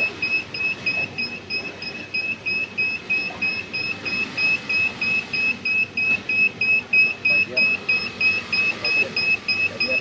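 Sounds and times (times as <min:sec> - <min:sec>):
alarm buzzer beeping rapidly: 0:00.0 - 0:10.0
low machine noise: 0:00.0 - 0:10.0.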